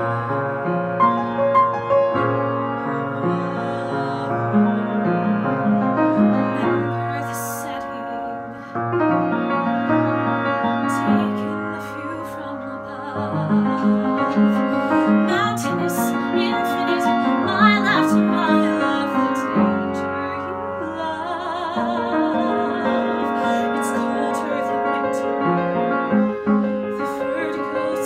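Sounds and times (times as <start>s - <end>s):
woman singing a ballad: 0.0s - 1.5s, 2.6s - 8.8s, 10.7s - 25.7s, 26.8s - 28.0s
piano accompaniment: 0.0s - 28.0s.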